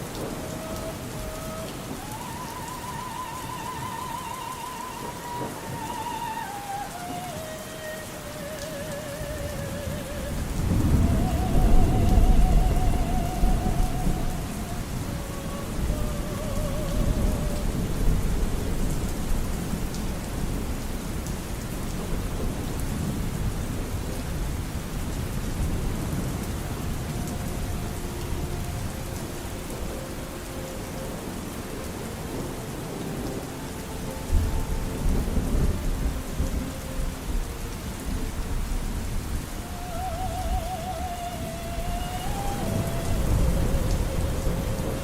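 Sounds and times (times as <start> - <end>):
rumbling thunder: 0.0 - 45.0
steady rain falling: 0.0 - 45.0.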